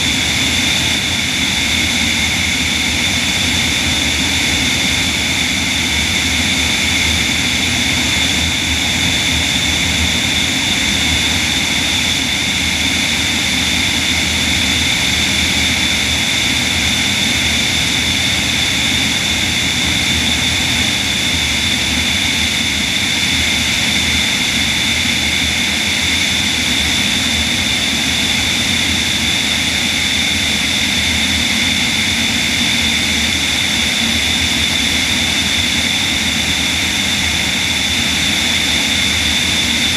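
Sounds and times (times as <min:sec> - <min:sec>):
propeller and airflow rush: 0:00.0 - 0:39.9.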